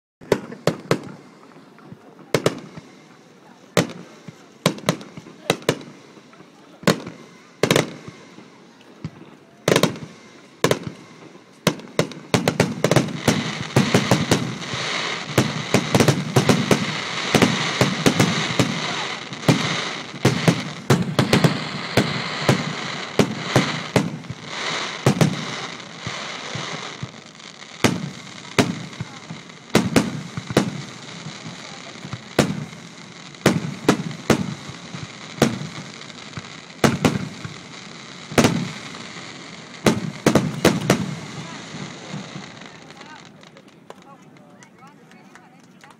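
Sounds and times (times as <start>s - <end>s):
firework crackle: 0.2s - 45.9s
firework shells bursting: 3.8s - 44.6s.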